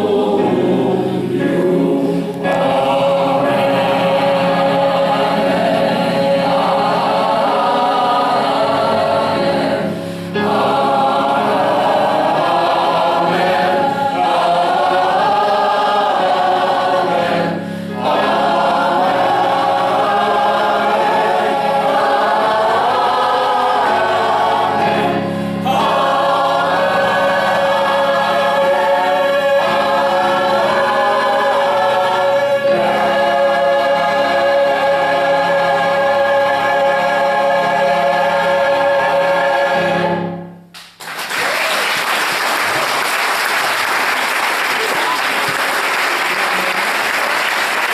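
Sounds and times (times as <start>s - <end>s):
choir singing in harmony: 0.0s - 40.6s.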